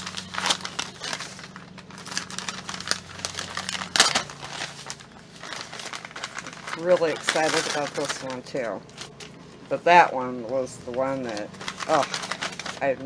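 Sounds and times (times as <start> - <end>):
newspaper crinkling and rustling: 0.0 - 13.0.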